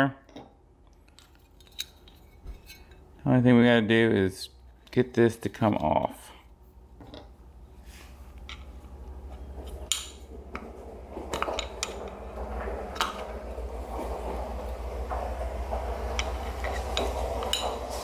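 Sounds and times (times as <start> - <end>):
steady low hum: 0.4 - 18.0.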